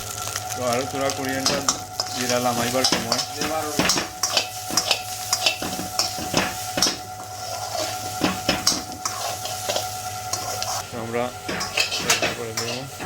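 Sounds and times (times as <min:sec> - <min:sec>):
light sizzle: 0:00.0 - 0:13.0
steady hum: 0:00.7 - 0:13.0
spoon scraping against a pan: 0:01.4 - 0:13.0.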